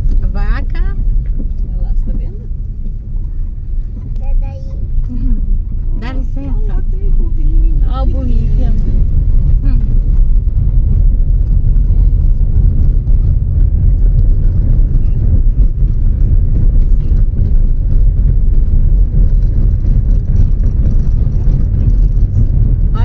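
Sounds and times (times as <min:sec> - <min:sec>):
vehicle driving rumble: 0:00.0 - 0:23.0.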